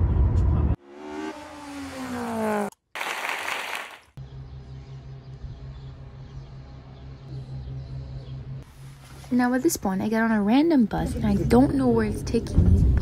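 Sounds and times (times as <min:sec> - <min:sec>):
low engine hum: 0:00.0 - 0:02.7, 0:04.2 - 0:13.0
road noise: 0:00.6 - 0:13.0.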